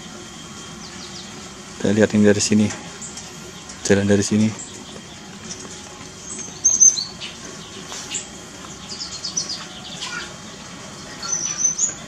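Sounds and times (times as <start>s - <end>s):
small birds chirping and whistling: 0.6s - 1.5s, 2.9s - 12.0s.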